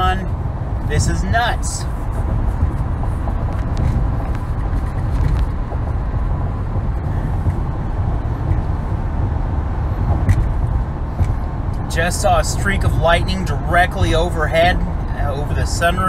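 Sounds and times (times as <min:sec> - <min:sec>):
car cabin tyre and engine rumble: 0:00.0 - 0:16.0.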